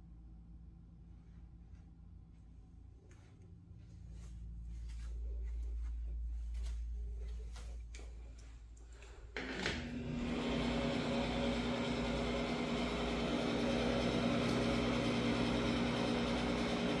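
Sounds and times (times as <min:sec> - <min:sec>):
exhaust fan running: 0:00.0 - 0:17.0.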